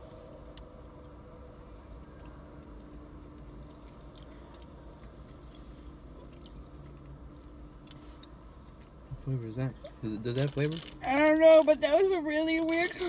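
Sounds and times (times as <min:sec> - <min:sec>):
low hum in car cabin: 0:00.0 - 0:13.0.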